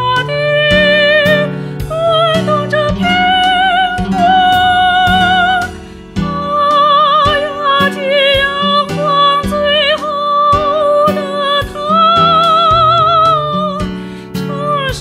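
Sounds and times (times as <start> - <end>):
instrumental accompaniment: 0.0 - 15.0
person singing with vibrato: 0.0 - 15.0.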